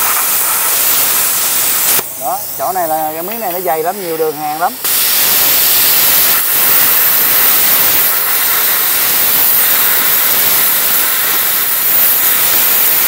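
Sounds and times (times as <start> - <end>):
plasma cutter arc hissing: 0.0 - 13.0.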